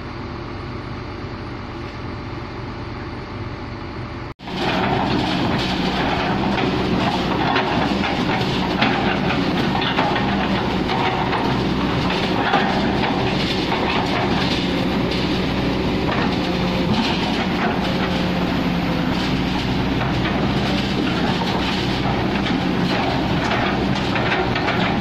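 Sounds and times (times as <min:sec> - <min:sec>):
diesel engine running: 0:00.0 - 0:25.0
excavator clattering and rattling: 0:04.4 - 0:25.0.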